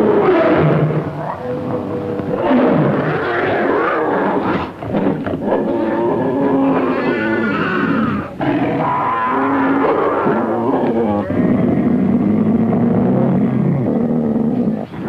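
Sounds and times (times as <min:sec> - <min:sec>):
monster roars and growls: 0:00.0 - 0:15.0.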